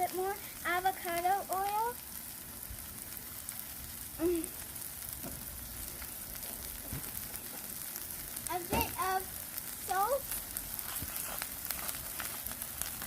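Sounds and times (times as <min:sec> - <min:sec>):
greens sizzling in oil: 0:00.0 - 0:13.0.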